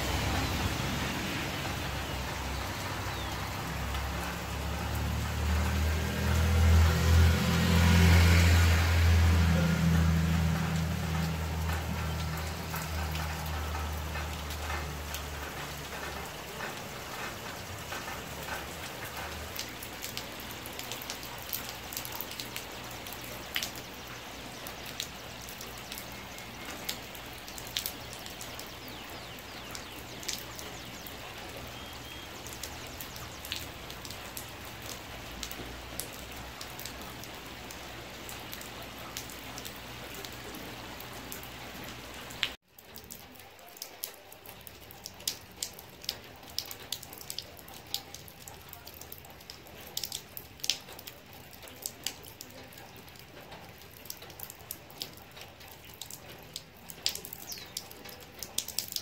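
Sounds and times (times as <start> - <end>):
steady rain falling: 0.0 - 59.0
water drips: 0.0 - 59.0.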